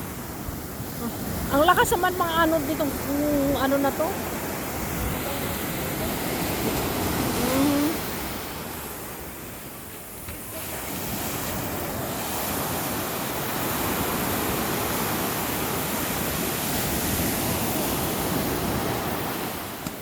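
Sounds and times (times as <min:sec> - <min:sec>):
sea surf washing ashore: 0:00.0 - 0:20.0
wind on microphone: 0:00.0 - 0:20.0.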